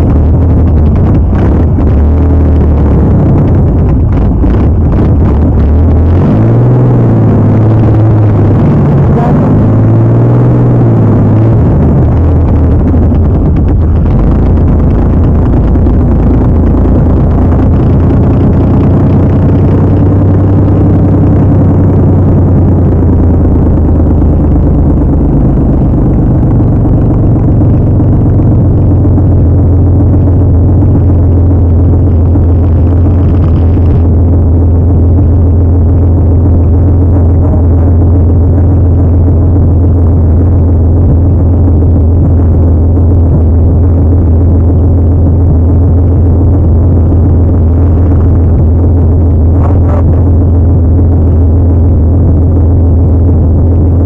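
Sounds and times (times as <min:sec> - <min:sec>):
truck engine revving: 0:00.0 - 0:54.0.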